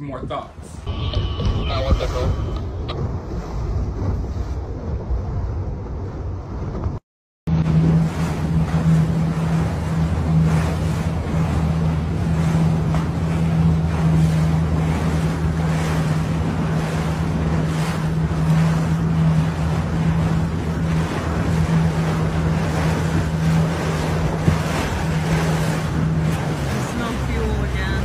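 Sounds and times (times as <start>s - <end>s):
wind buffeting microphone: 0.0s - 7.0s, 7.6s - 28.0s
water splashing against hull: 0.0s - 28.0s
small boat motor running: 0.8s - 28.0s.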